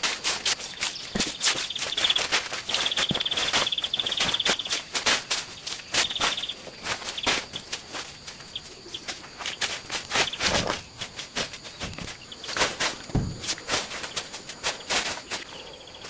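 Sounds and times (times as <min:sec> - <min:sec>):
insect trilling: 0:00.2 - 0:16.0.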